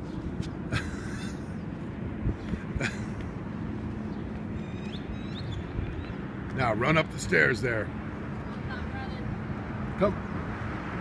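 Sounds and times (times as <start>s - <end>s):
low outdoor background noise: 0.0s - 11.0s.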